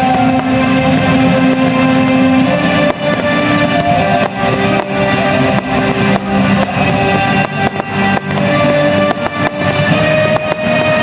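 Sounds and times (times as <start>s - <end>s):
firework bangs and cracks: 0.0s - 11.0s
guitar rock music: 0.0s - 11.0s.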